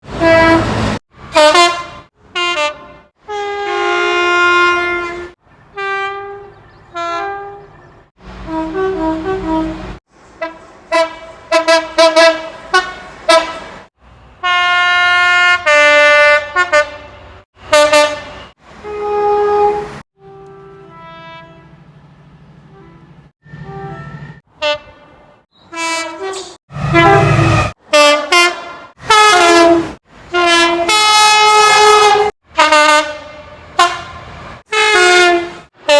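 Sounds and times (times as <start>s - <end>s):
train horns blasting: 0.0s - 22.0s, 22.6s - 35.9s
low rumble of trains: 0.0s - 35.9s.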